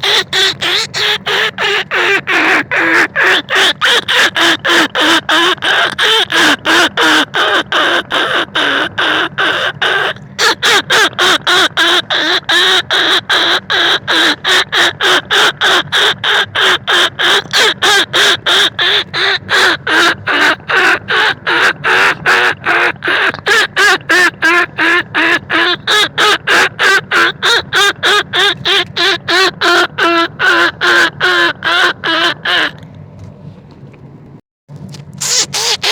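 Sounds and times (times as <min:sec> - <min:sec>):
rat-calling squeaks: 0:00.0 - 0:32.8, 0:35.2 - 0:35.9.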